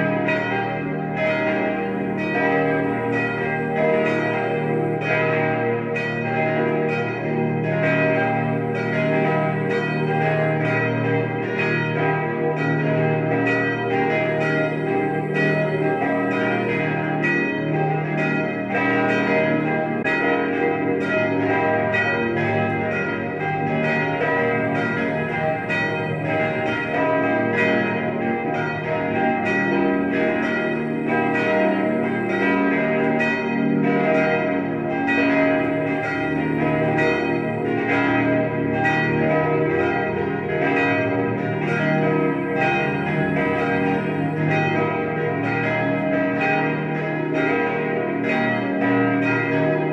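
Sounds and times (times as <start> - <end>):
church bells pealing: 0.0 - 49.9.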